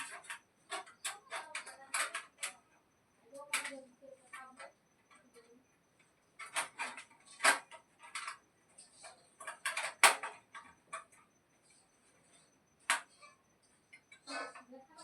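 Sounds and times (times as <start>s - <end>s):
small hard parts clicking: 0.0s - 15.0s.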